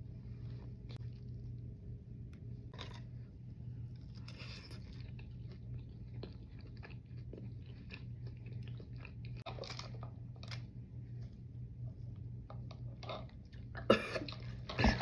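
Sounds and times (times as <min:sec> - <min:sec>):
chewing and crunching food: 0:00.0 - 0:15.0
steady low hum: 0:00.0 - 0:15.0.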